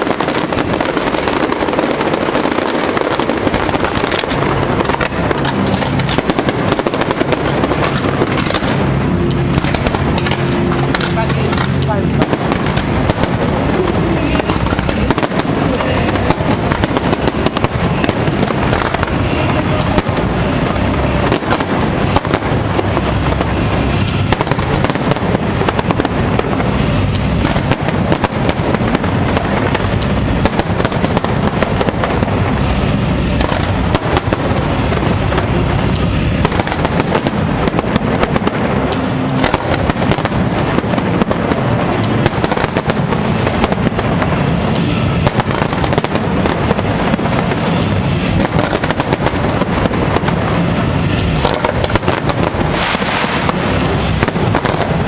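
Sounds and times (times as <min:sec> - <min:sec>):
fireworks bursts and crackling: 0:00.0 - 0:55.0.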